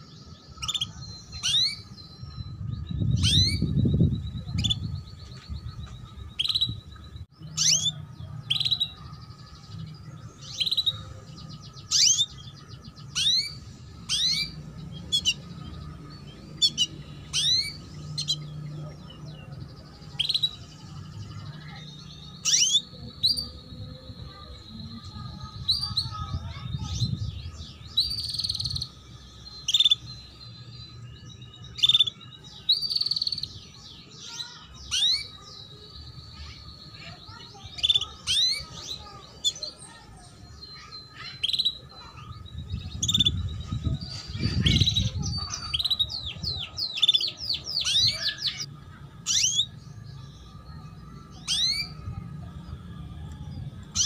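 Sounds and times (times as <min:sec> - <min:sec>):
canary chirping: 0:00.0 - 0:52.2, 0:53.8 - 0:54.0.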